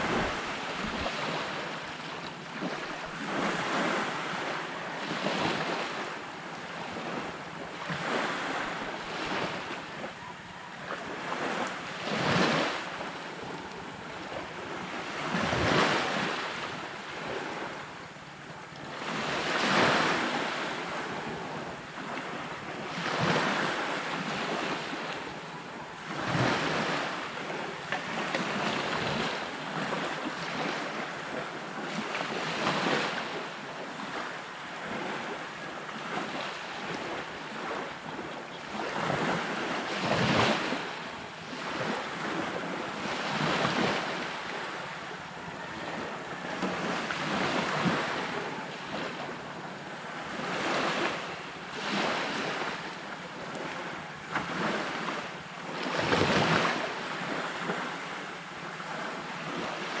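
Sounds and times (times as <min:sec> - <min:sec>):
waves washing onto beach: 0:00.0 - 1:00.0
wind: 0:00.0 - 1:00.0.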